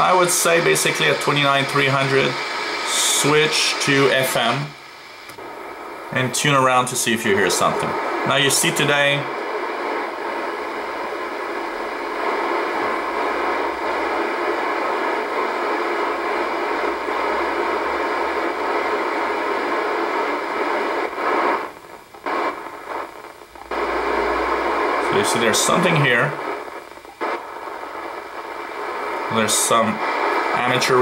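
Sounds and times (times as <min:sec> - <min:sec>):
radio receiver static hiss: 0:00.0 - 0:31.0.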